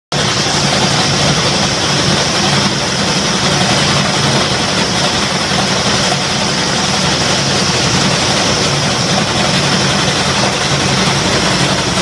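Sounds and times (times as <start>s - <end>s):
heavy machinery engine idling: 0.1s - 12.0s.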